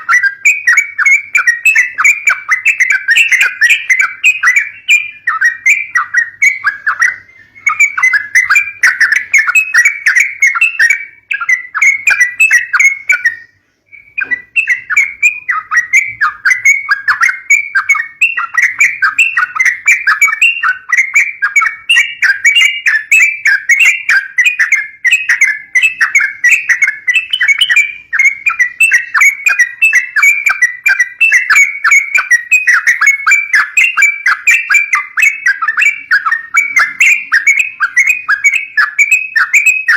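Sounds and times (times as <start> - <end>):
bird chattering chirps: 0.0 - 39.9.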